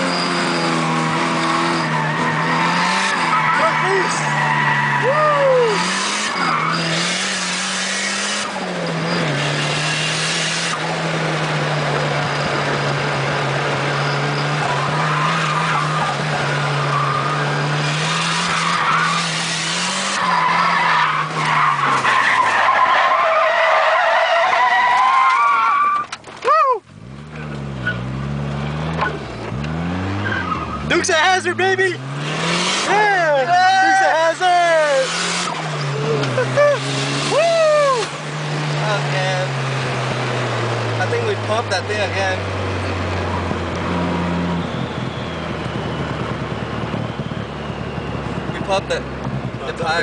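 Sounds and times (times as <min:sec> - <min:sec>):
car engine at high revs: 0:00.0 - 0:50.0
tyres squealing and skidding: 0:00.0 - 0:50.0.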